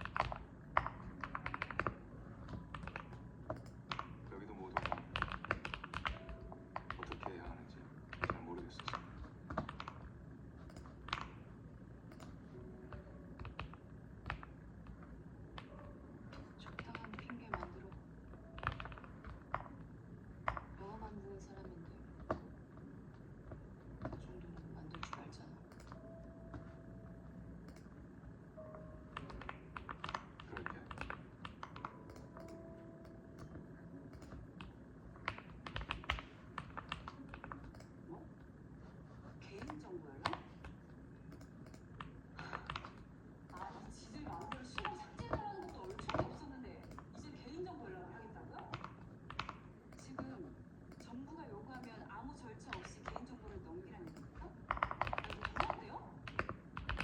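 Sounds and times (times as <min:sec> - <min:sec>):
mechanical keyboard typing: 0:00.0 - 0:11.5, 0:12.1 - 0:22.5, 0:24.0 - 0:26.8, 0:27.6 - 0:28.0, 0:28.6 - 0:38.1, 0:39.5 - 0:47.8, 0:48.5 - 0:57.0.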